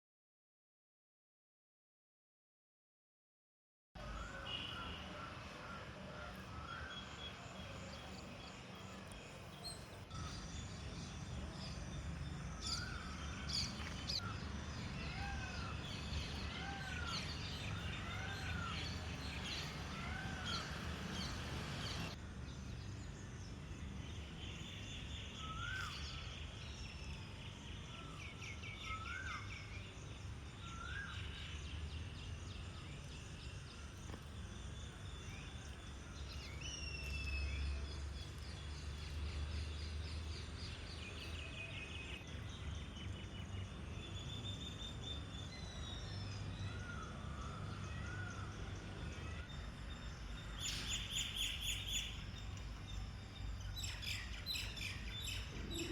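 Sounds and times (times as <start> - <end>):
birds chirping and twittering: 4.0 - 55.9.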